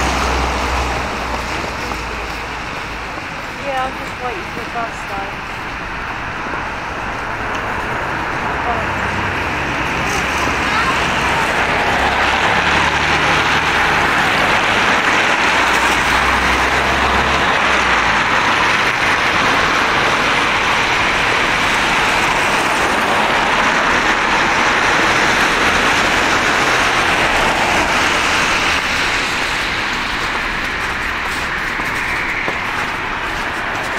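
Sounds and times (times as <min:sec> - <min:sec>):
tyres hissing on wet road: 0:00.0 - 0:33.9.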